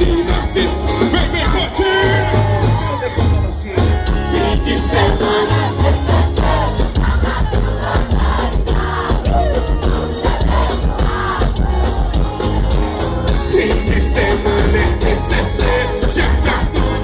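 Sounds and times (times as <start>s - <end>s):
crowd singing along: 0.0s - 17.0s
live band with bass and drums: 0.0s - 17.0s.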